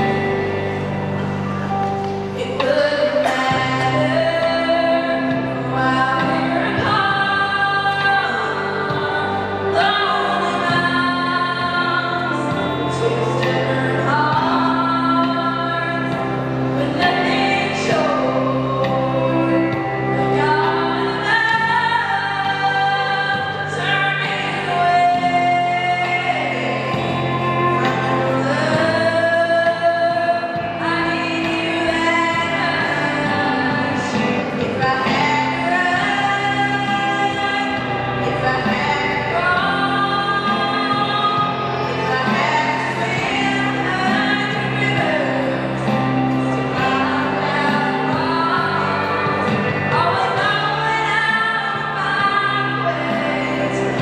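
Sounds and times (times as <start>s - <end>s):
instrumental backing track: 0.0s - 54.0s
girl singing into microphone: 2.4s - 54.0s.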